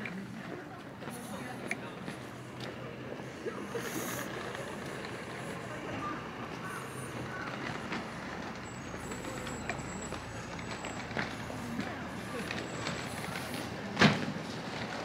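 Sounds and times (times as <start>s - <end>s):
faint voices of passers-by: 0.0s - 15.0s.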